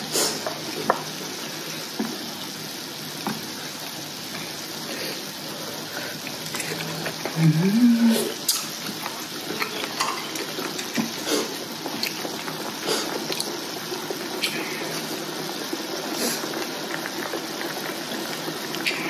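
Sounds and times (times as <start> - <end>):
broth bubbling in a hotpot: 0.0 - 19.0.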